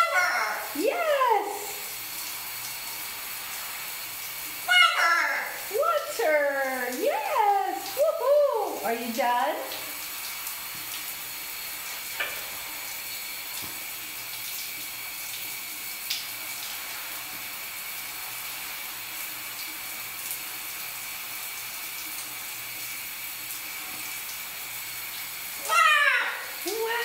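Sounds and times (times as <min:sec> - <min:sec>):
shower water running: 0:00.0 - 0:27.0.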